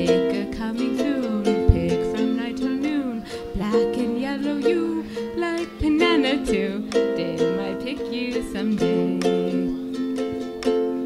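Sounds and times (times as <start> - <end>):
woman singing: 0.0 - 10.0
ukulele strumming: 0.0 - 11.0.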